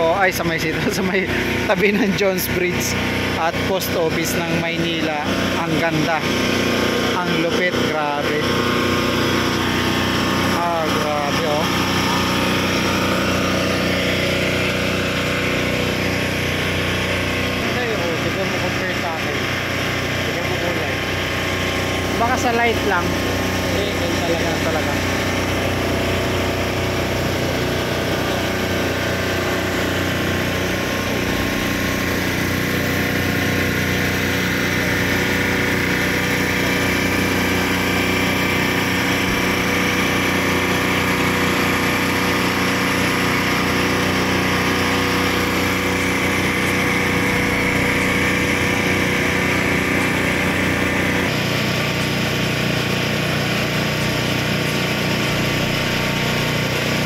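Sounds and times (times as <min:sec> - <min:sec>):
machine humming steadily: 0:00.0 - 0:57.0.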